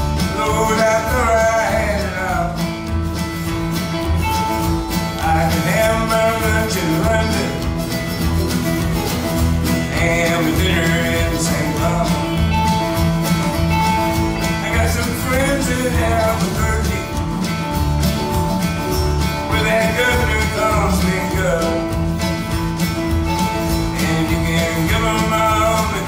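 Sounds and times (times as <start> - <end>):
acoustic guitar: 0.0 - 26.0
electric guitar: 0.0 - 26.0
fiddle lead line: 0.0 - 26.0
upright bass: 0.0 - 26.0.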